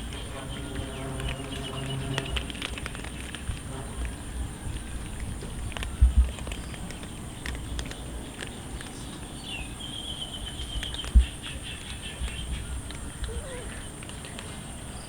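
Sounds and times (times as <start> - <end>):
cats chewing crunchy food: 0.0 - 15.0.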